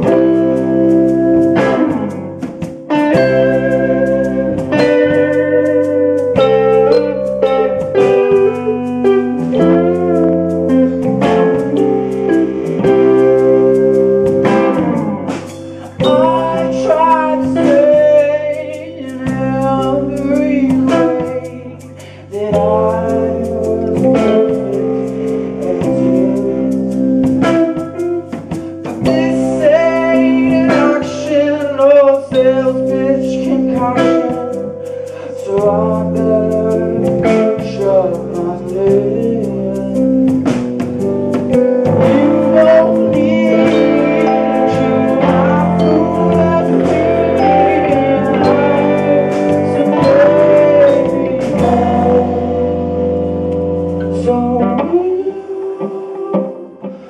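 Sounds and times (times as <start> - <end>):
electric bass notes: 0.0 - 57.0
live rock band playing: 0.0 - 57.0
man singing lead vocal: 9.4 - 41.0, 41.6 - 57.0.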